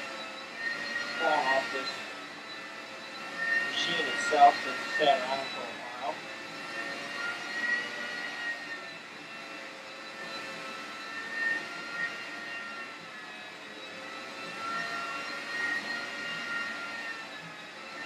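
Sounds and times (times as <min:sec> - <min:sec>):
floor scrubber motor whine: 0:00.0 - 0:18.0.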